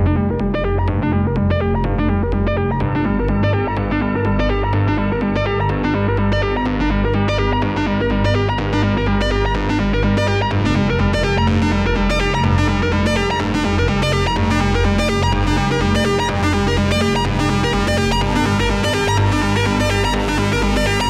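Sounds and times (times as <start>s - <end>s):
trance dance music: 0.0s - 21.0s.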